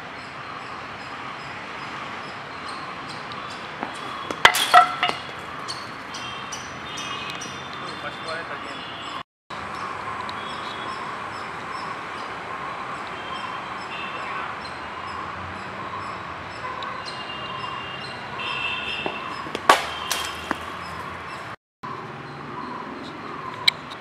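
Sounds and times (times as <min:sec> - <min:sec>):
birds chirping: 0:00.2 - 0:24.0.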